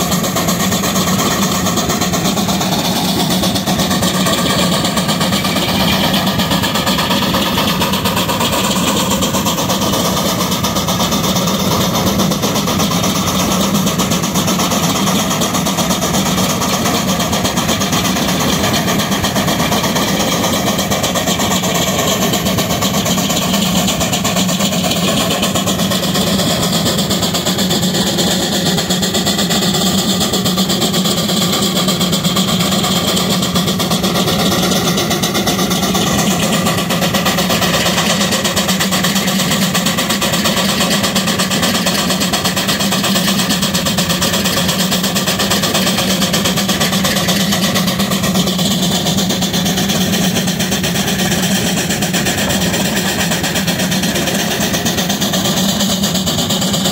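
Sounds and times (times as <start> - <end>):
steam engine exhaust chuffing: 0.0 - 56.9.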